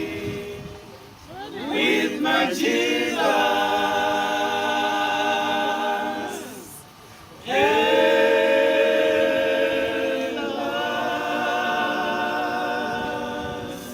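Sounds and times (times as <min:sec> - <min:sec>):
choir singing held chords: 0:00.0 - 0:13.9.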